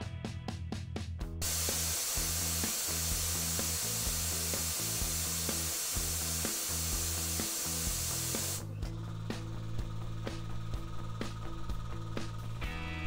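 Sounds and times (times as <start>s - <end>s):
compressed air hissing from valve: 1.4s - 12.6s.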